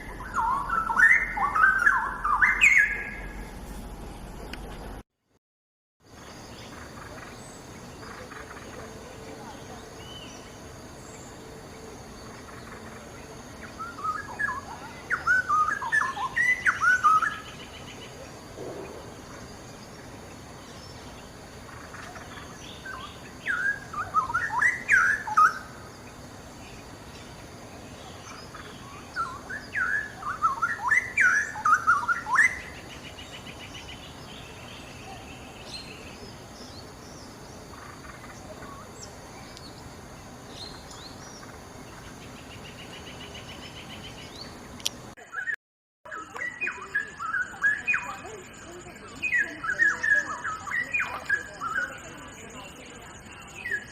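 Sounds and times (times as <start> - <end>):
bulbul singing warbled phrases: 0.0 - 3.6, 6.1 - 53.9.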